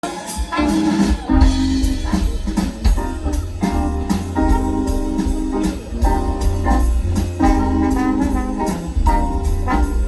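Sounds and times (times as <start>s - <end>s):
live band playing instrumental: 0.0s - 10.0s.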